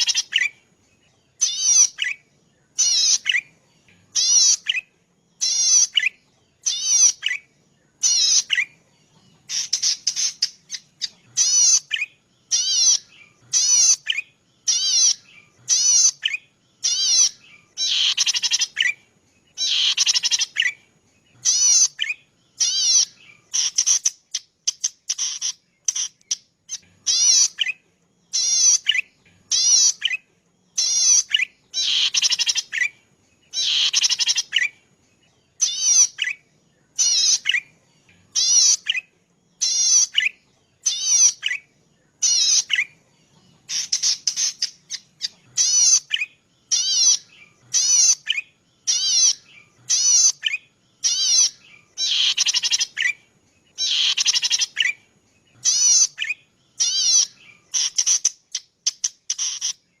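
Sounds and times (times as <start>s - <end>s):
warbler calling in buzzy notes: 0.0s - 0.7s, 1.4s - 34.8s, 35.6s - 43.0s, 43.6s - 60.0s.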